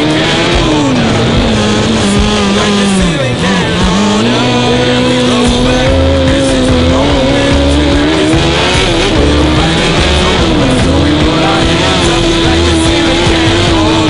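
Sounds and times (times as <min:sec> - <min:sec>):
music with steady bass beat: 0:00.0 - 0:14.0
race car engine revving: 0:00.0 - 0:14.0.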